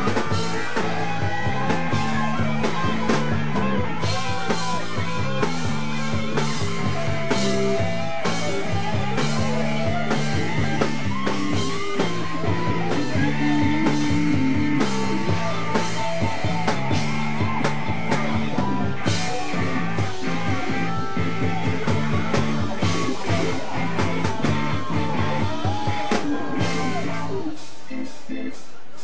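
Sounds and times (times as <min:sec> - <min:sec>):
electric guitars: 0:00.0 - 0:27.9
live rock band playing: 0:00.0 - 0:27.9
bass guitar: 0:00.0 - 0:29.0
drum kit beat: 0:00.0 - 0:29.0.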